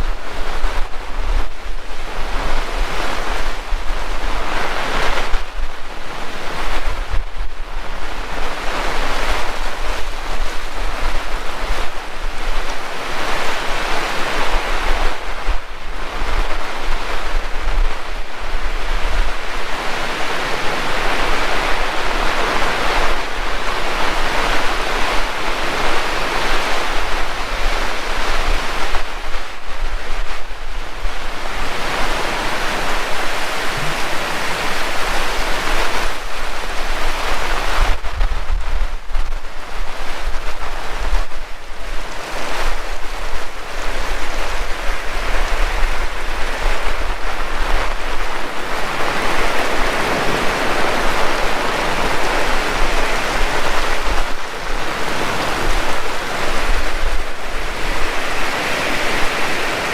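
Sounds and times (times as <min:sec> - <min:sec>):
heavy rain pouring: 0:00.0 - 0:59.9
wind buffeting microphone: 0:00.0 - 0:59.9.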